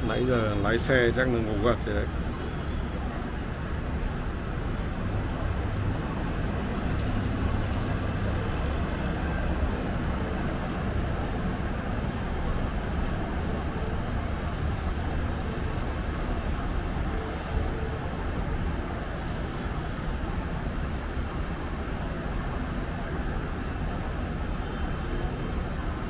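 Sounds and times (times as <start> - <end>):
city traffic drone: 0.0 - 26.0.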